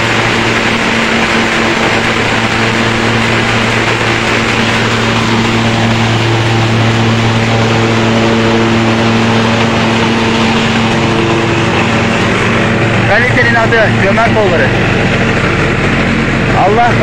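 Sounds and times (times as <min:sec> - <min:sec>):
thresher machine running: 0:00.0 - 0:17.0.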